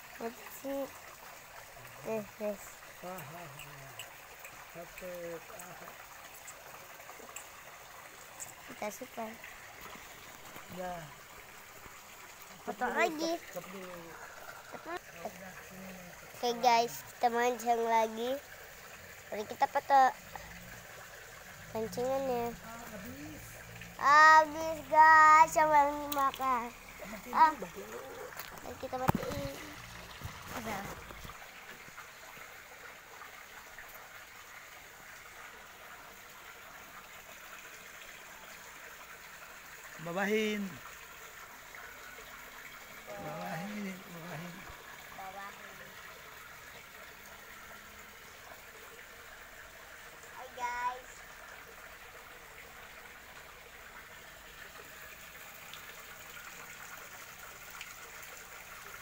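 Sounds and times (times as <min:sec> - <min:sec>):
water trickling into a pond: 0:00.0 - 0:59.0.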